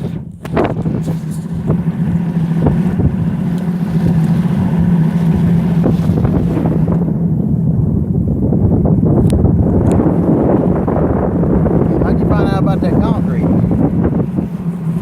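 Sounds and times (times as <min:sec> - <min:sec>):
motorboat engine humming: 0:00.0 - 0:15.0
wind buffeting microphone: 0:00.0 - 0:15.0.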